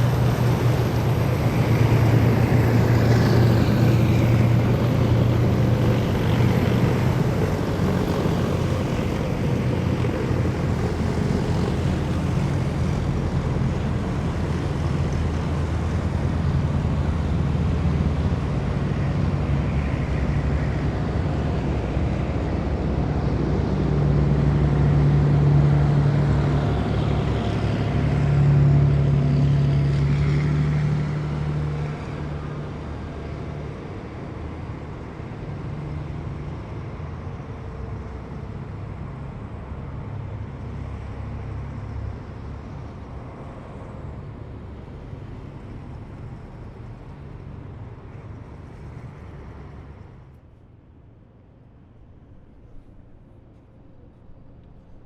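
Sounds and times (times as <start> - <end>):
heavy vehicles driving past: 0.0 - 50.8.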